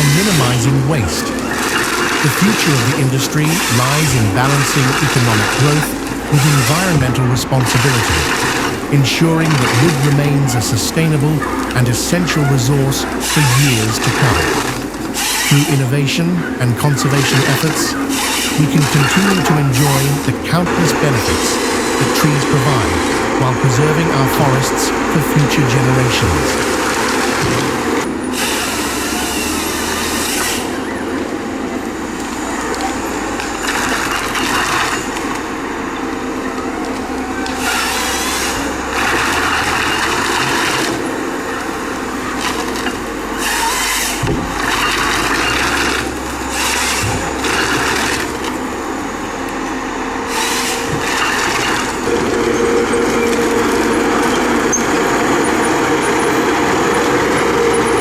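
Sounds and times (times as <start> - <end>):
sawing or grinding wood: 0.0 - 30.8, 37.6 - 48.6, 50.3 - 58.0
forestry machine engine running: 0.0 - 58.0.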